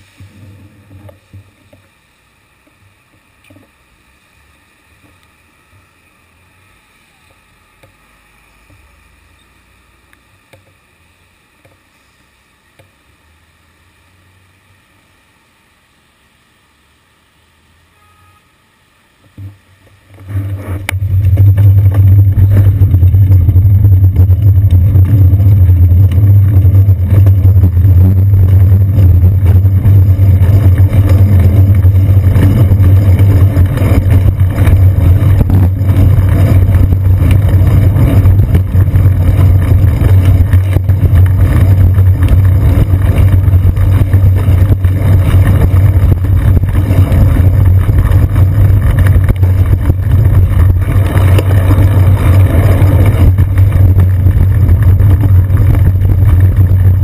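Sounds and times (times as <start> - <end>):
bicycle tyre noise on wet pavement: 0.0 - 9.0, 19.2 - 57.0.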